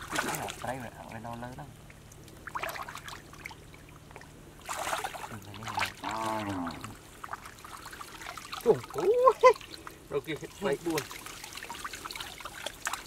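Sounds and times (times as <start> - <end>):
water splash: 0.0 - 1.0, 2.2 - 13.0
shallow water sloshing: 0.0 - 13.0.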